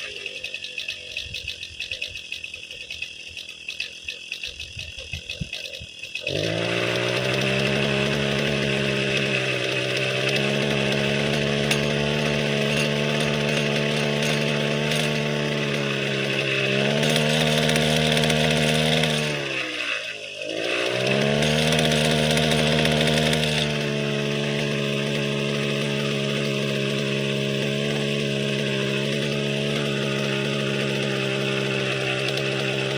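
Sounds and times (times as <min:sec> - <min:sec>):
brush cutter engine revving: 0:00.0 - 0:32.9.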